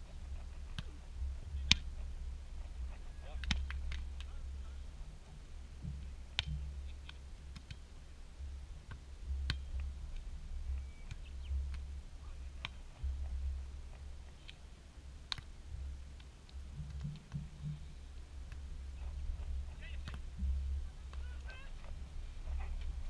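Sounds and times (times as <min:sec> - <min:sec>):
hands slapping a volleyball: 0:00.4 - 0:04.3, 0:05.3 - 0:08.0, 0:08.8 - 0:22.0.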